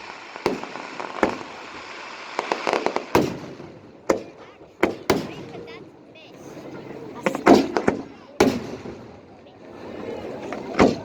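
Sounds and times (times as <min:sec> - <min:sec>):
fireworks bangs: 0:00.0 - 0:11.0
fireworks crackle: 0:00.0 - 0:11.0.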